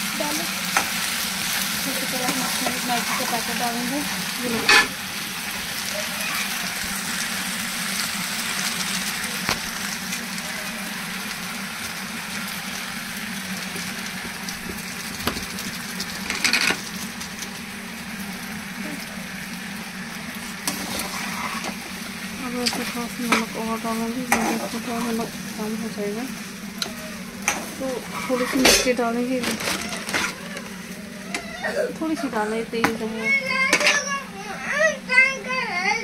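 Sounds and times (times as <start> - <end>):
pasta sizzling in a pan: 0.0 - 36.0.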